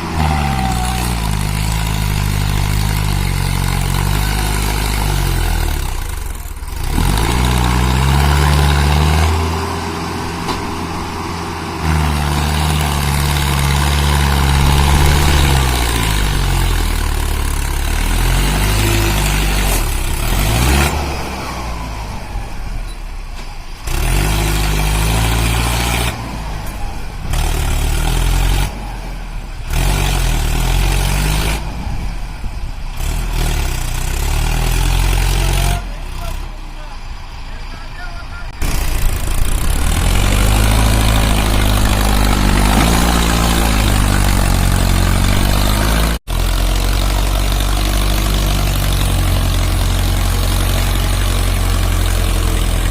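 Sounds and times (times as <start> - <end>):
tractor diesel engine labouring: 0.0 - 52.9.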